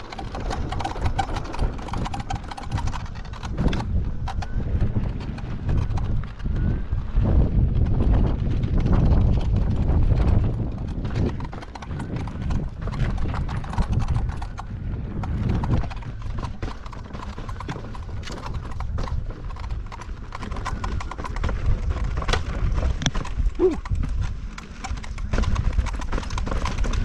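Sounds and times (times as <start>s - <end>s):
wheel clicks and knocks over bumps: 0.0s - 27.0s
wind rumbling on microphone: 0.0s - 27.0s.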